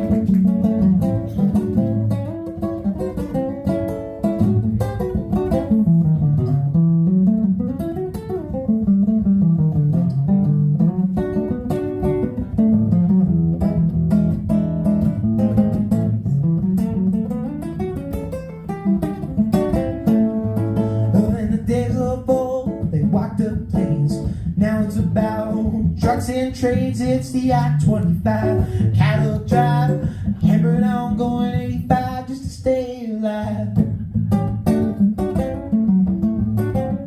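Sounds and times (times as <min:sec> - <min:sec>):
acoustic guitar playing country: 0:00.0 - 0:37.0.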